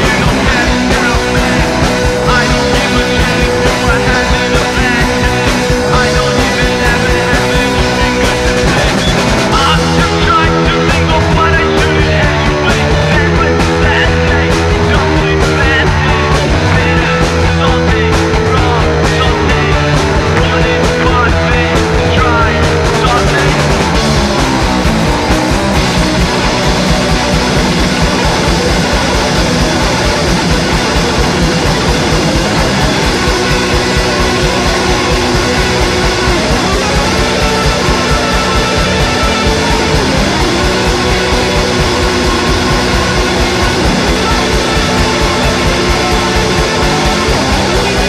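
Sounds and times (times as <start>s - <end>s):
punk rock band playing: 0.0s - 48.0s.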